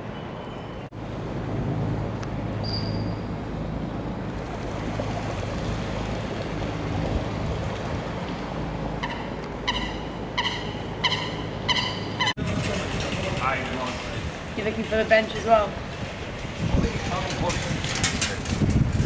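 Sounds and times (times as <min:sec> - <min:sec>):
boat engine humming: 0:00.8 - 0:17.2.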